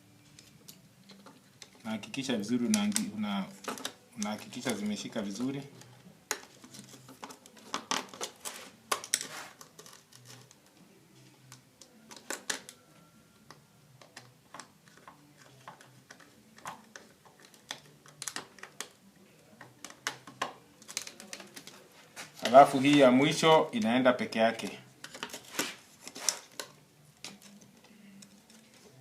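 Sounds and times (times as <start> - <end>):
wires clicking into connectors: 0.3 - 10.8, 11.4 - 12.8, 13.4 - 23.9, 25.0 - 29.0.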